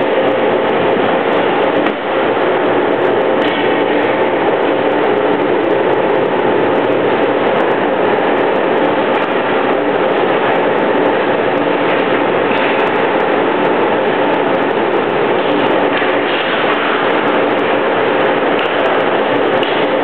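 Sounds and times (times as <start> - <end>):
ice rink hockey noise: 0.0 - 6.4, 7.0 - 11.0, 11.6 - 20.0.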